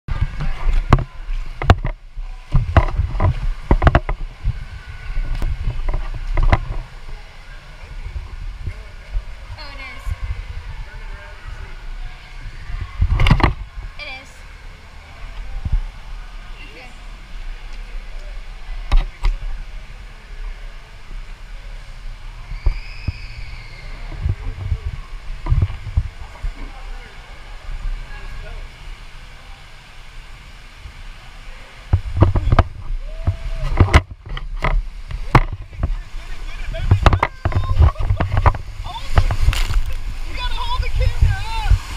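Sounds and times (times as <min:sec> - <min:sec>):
rumbling wash of water: 0:00.1 - 0:41.9
water splashing and sloshing: 0:00.1 - 0:41.9.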